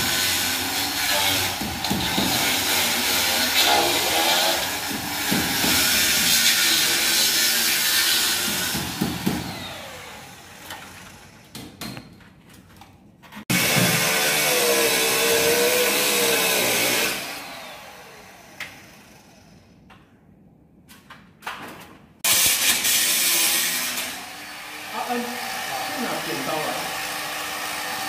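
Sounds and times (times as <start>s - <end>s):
electric power tool cutting: 0.0s - 11.4s, 13.5s - 19.5s, 22.3s - 28.0s.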